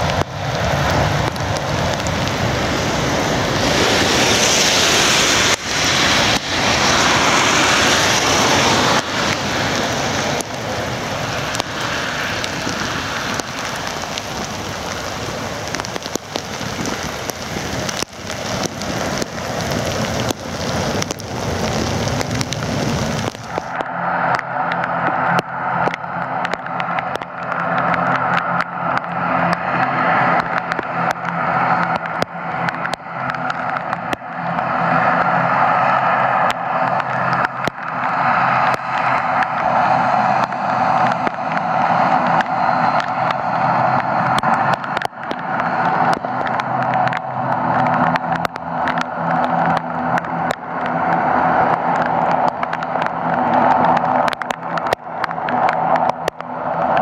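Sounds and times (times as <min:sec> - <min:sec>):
distant jet engines roaring: 0:00.0 - 0:57.0
heavy rain: 0:00.0 - 0:57.0
turboprop taxiing hum: 0:00.0 - 0:57.0.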